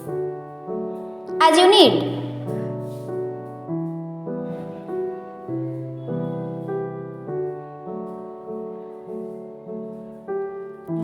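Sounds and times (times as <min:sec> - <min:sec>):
soft piano melody: 0:00.0 - 0:01.4, 0:02.0 - 0:11.0.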